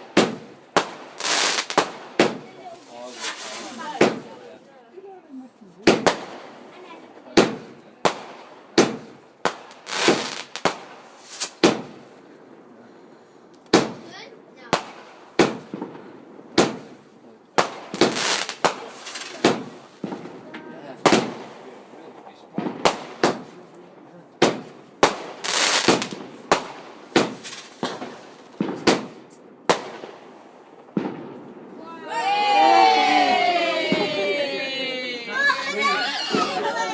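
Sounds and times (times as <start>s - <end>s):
firework bangs: 0.0s - 4.5s, 5.8s - 12.6s, 13.6s - 23.7s, 24.4s - 34.4s, 35.9s - 36.9s
firework crackling: 0.0s - 4.5s, 5.9s - 12.5s, 13.6s - 23.6s, 24.4s - 36.9s.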